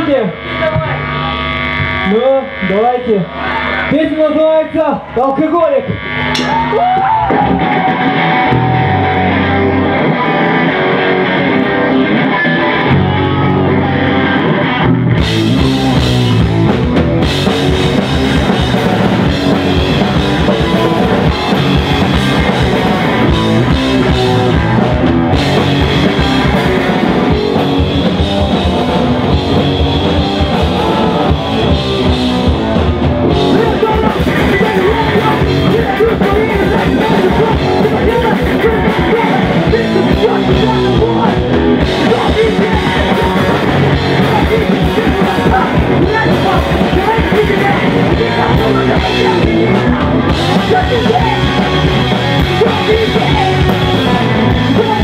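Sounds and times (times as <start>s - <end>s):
punk rock band playing: 0.0s - 55.0s.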